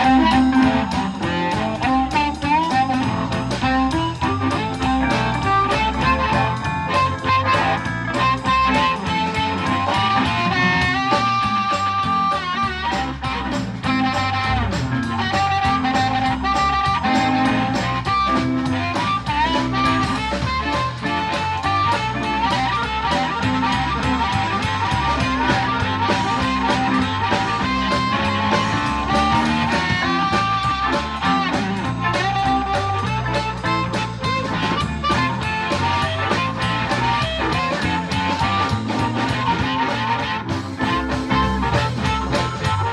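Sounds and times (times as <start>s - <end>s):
bass line: 0.0s - 42.9s
drums: 0.0s - 42.9s
lead instrument solo: 0.0s - 42.9s.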